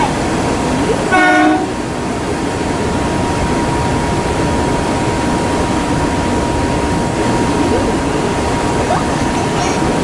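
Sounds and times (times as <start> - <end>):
electric train rushing: 0.0 - 10.0
thin steady whine: 0.0 - 10.0.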